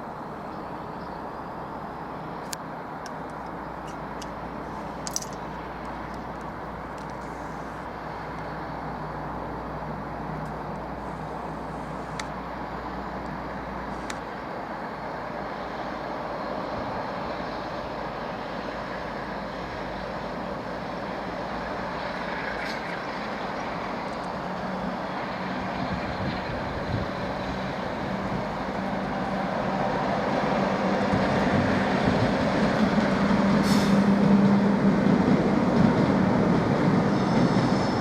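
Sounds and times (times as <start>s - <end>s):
train approaching: 0.0s - 38.0s.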